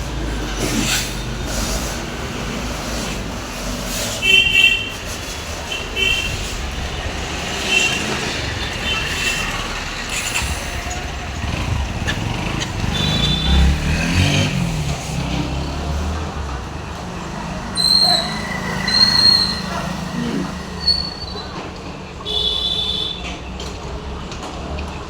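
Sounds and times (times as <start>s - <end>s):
motorcycle engine rumble: 0.0s - 21.8s.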